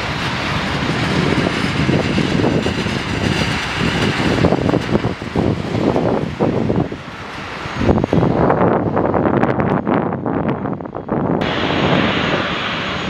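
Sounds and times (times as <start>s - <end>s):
high fan whine: 0.0s - 13.0s
jet engines rushing: 0.0s - 13.0s
wind buffeting microphone: 0.0s - 13.0s.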